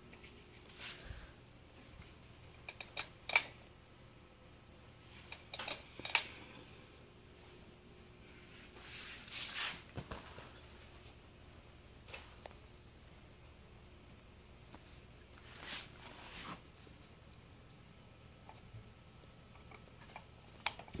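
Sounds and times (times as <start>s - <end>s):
ceiling fan hum: 0.0s - 21.0s.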